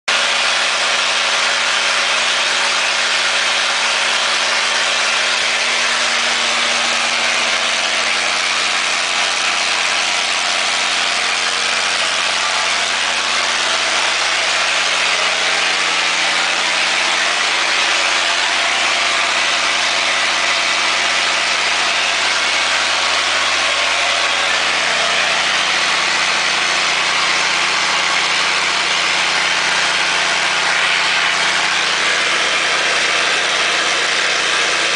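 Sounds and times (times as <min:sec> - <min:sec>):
generator engine droning: 0:00.1 - 0:34.9.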